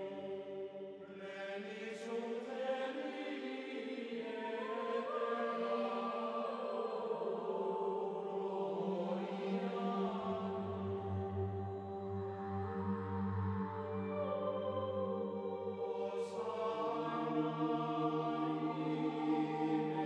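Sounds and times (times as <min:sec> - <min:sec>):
choir-like voices chanting: 0:00.0 - 0:20.0.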